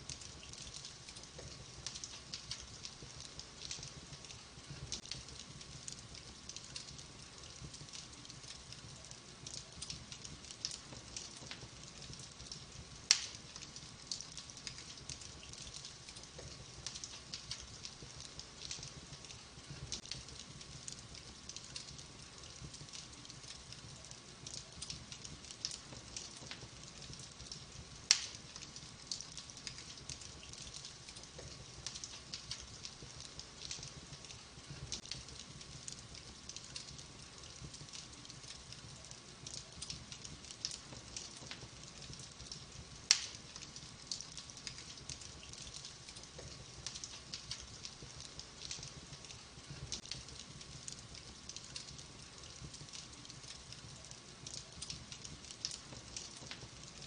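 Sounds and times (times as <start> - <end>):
wood fire crackling: 0.0 - 57.0
sharp fire pops: 0.1 - 38.6, 39.4 - 57.0.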